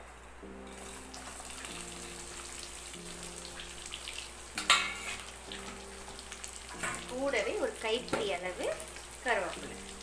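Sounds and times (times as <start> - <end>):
onions sizzling in hot oil: 0.7 - 10.0.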